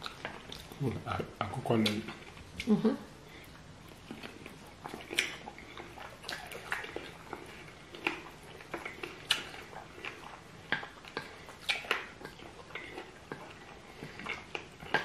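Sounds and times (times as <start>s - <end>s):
wet chewing and lip smacks: 0.0s - 15.0s.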